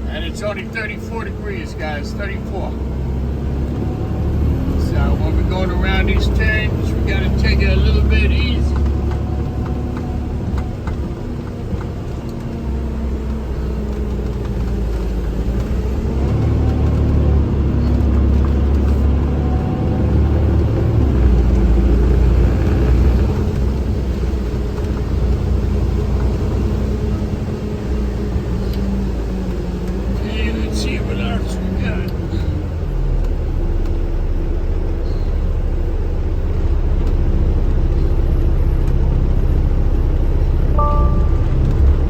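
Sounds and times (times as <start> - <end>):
vehicle engine and road rumble: 0.0 - 42.0.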